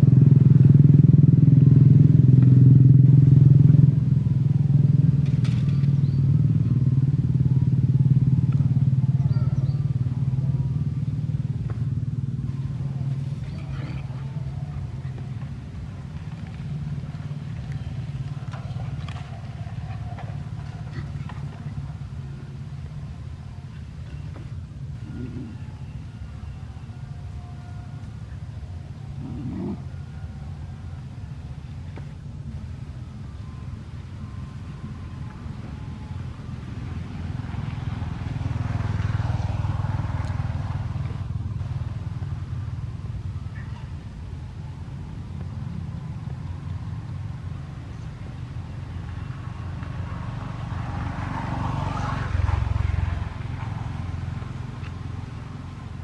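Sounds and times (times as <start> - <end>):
vehicle engine passing: 0.0 - 56.0.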